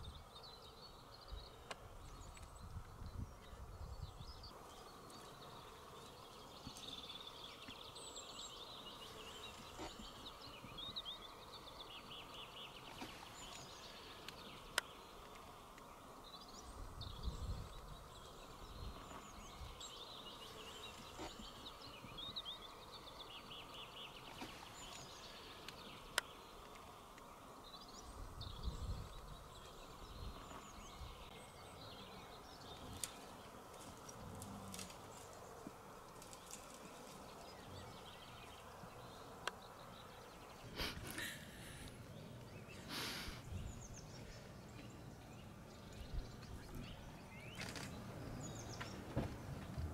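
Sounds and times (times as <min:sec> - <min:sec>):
background hiss: 0:00.0 - 0:49.9
songbirds chirping: 0:00.0 - 0:49.9.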